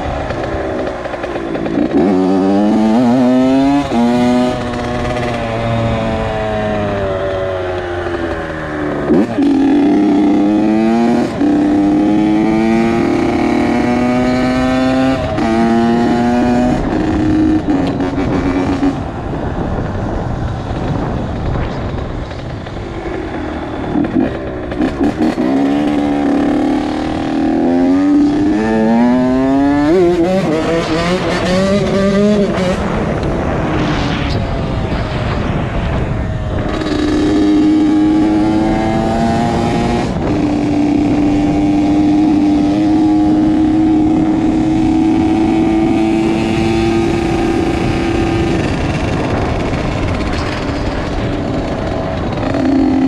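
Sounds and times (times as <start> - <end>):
motorcycle engine revving and shifting: 0.0 - 53.0.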